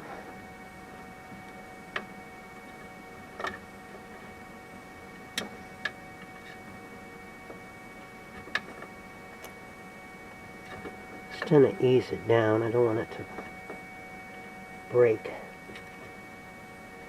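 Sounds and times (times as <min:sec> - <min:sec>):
faint tonal hum: 0:00.0 - 0:17.0.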